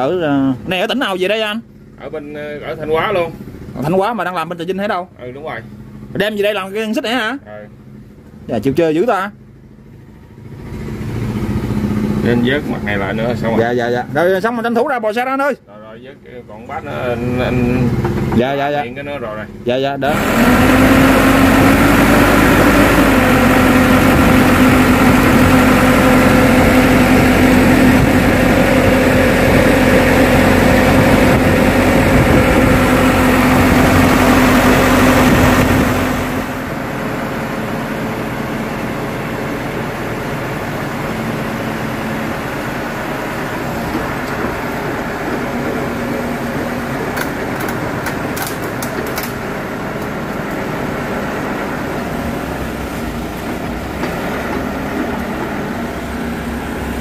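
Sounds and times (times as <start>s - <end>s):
excavator diesel engine running: 0.0s - 14.7s, 16.0s - 57.0s.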